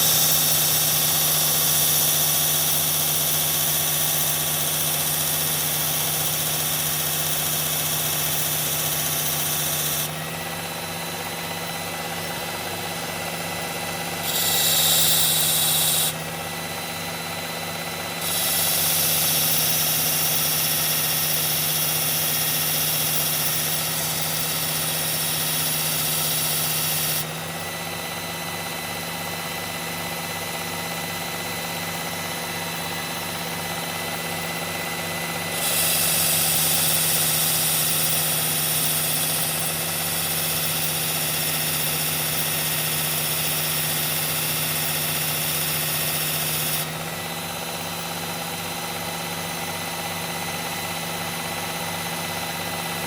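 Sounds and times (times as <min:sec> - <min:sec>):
blade grinding on belt: 0:00.0 - 0:27.8, 0:30.0 - 0:50.1
sharpener motor humming: 0:00.0 - 0:53.0.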